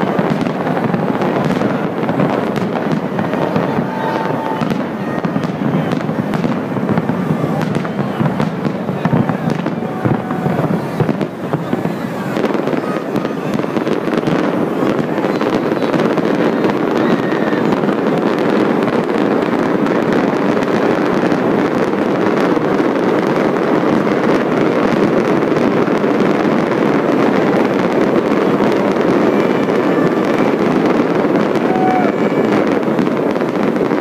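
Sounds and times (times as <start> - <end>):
fireworks crackling barrage: 0.0 - 34.0.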